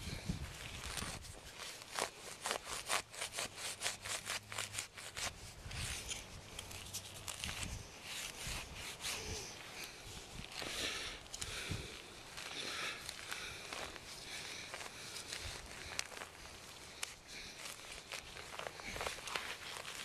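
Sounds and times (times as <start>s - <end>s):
grass and dirt scraping: 0.0s - 20.0s
knife sawing through turf: 0.8s - 11.0s, 12.4s - 20.0s.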